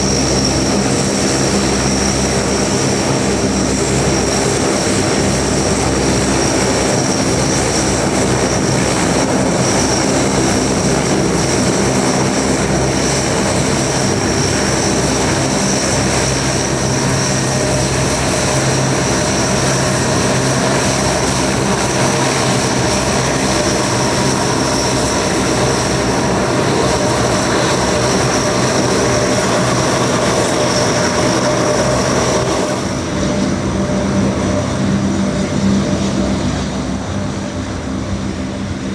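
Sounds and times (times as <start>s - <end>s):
deep propeller drone: 0.0s - 38.9s
turbine whine: 0.0s - 38.9s.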